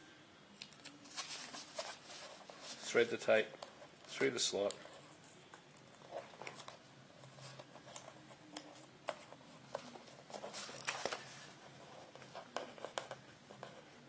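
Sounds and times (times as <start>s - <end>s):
tape and card rustling: 0.6s - 3.1s, 4.1s - 13.3s.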